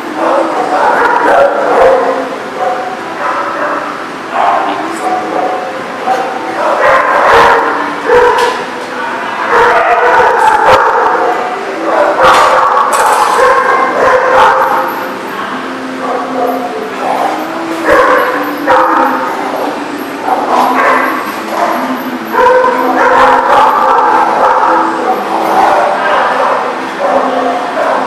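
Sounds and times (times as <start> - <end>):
dogs barking and yipping: 0.0 - 28.0.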